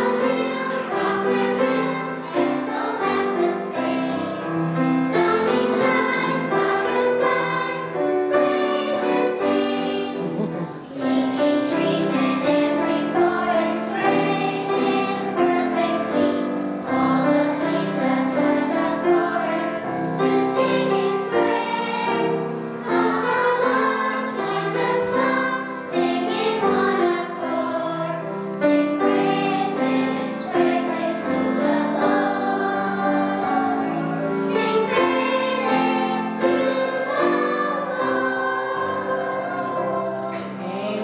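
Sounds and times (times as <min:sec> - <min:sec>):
children's choir singing: 0:00.0 - 0:41.0.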